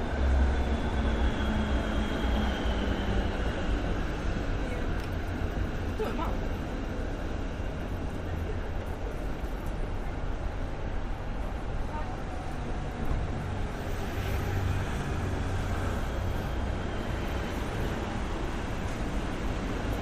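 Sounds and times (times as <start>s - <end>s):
traffic rumble: 0.0s - 20.0s
wind: 0.0s - 20.0s.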